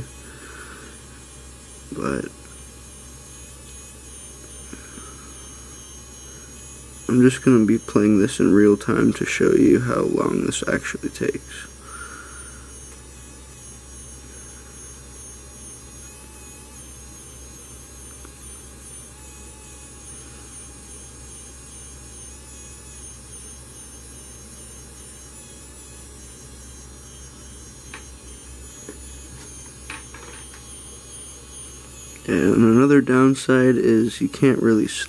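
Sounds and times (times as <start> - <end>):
small feed motor running: 0.0 - 35.0.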